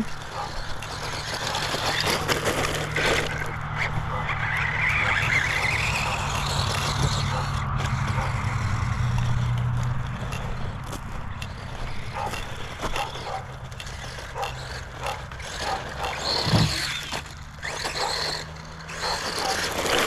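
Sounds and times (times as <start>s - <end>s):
clicks and knocks from wheels: 0.0s - 20.0s
electric toy car motor whining: 0.0s - 20.0s.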